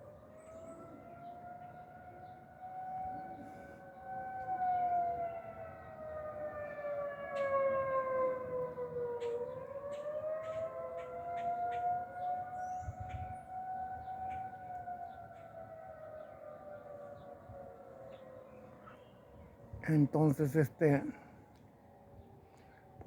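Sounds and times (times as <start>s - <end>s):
storm warning sirens wailing: 0.0s - 23.0s.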